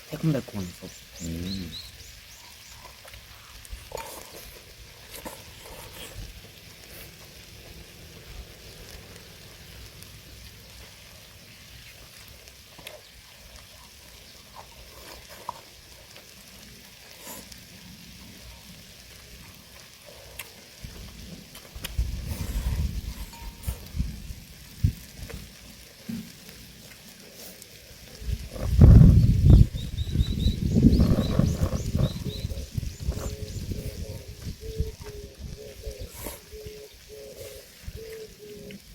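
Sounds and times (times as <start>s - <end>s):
meat sizzling on a grill: 0.0s - 38.9s.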